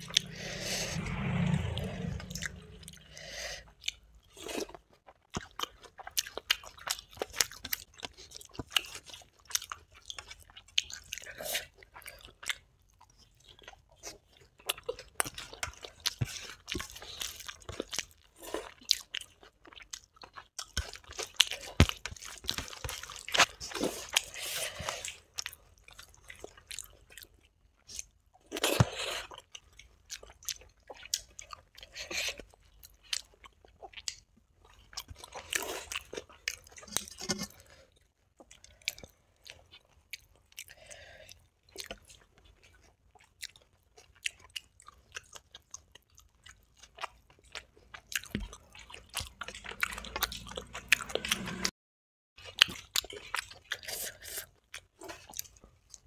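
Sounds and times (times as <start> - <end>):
chewing and biting: 3.8 - 51.7, 52.4 - 56.0
crunches of fried food: 4.3 - 51.7.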